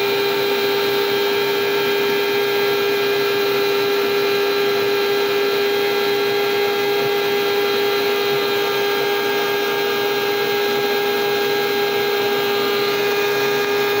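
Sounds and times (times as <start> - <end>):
electric meat grinder humming: 0.0 - 14.0.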